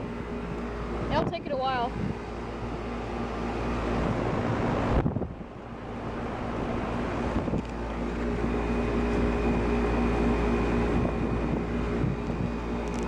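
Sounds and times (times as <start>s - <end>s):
air conditioner compressor humming: 0.0s - 13.0s
condenser fan air rushing: 0.0s - 13.0s.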